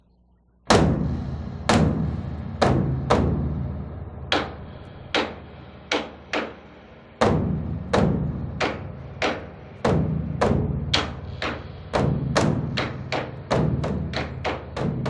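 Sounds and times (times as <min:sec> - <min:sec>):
large drum booming: 0:00.7 - 0:15.0.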